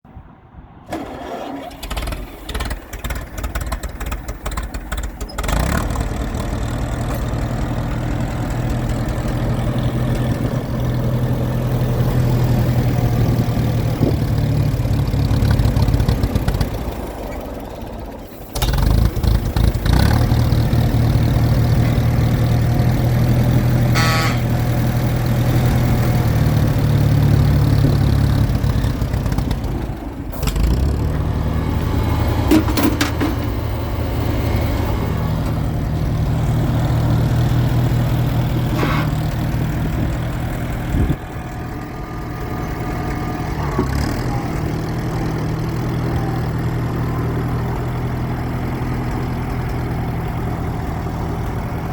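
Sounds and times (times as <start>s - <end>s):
tractor engine running: 0.8s - 51.9s.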